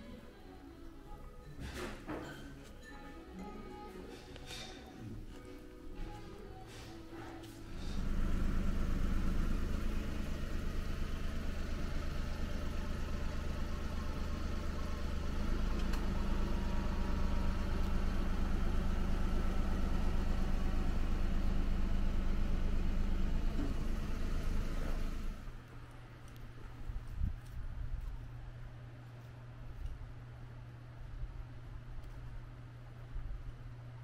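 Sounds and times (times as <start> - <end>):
engine humming: 3.5 - 34.0.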